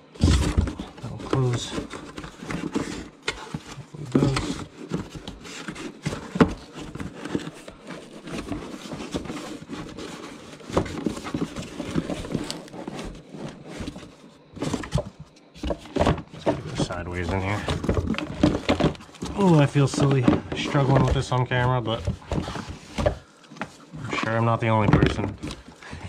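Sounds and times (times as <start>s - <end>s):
cardboard scraping and rubbing: 0.0s - 26.0s
knocks and taps of box contents: 0.2s - 23.8s, 24.7s - 26.0s.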